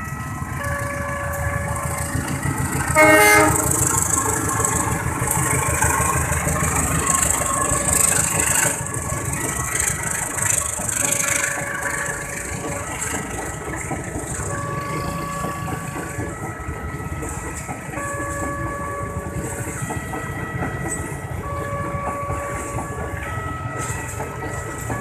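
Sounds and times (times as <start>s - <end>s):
crossing warning siren: 0.0s - 25.0s
train wheels clattering on rail: 0.0s - 25.0s.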